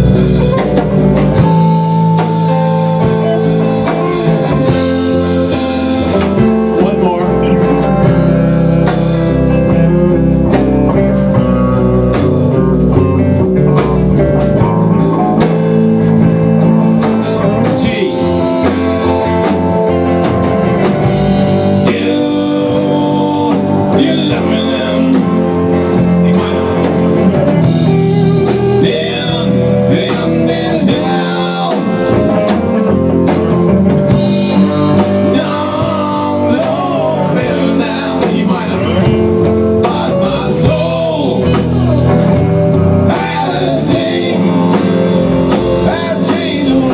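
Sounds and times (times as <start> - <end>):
live blues-rock band playing: 0.0 - 46.9.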